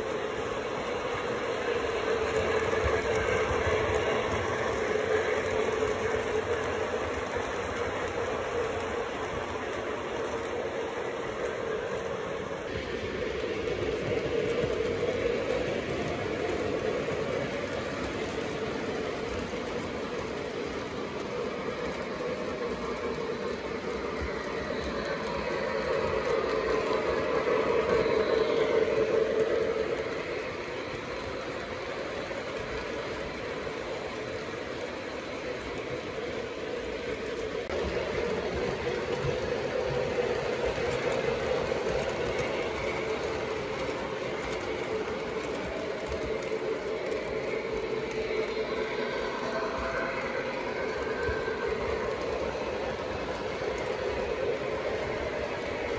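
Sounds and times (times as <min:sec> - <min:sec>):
model train running hum: 0:00.0 - 0:55.9.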